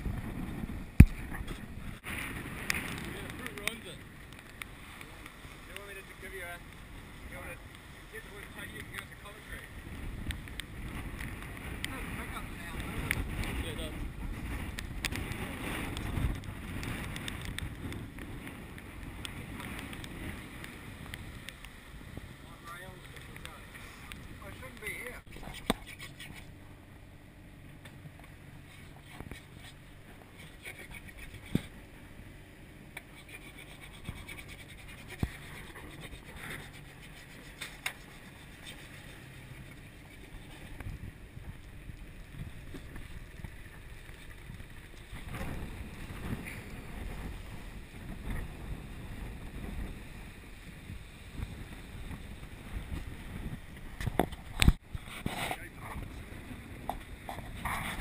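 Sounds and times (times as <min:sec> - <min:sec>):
wind noise: 0:00.0 - 0:26.9, 0:28.0 - 0:58.0
water rushing along hull: 0:00.0 - 0:27.0, 0:28.0 - 0:58.0.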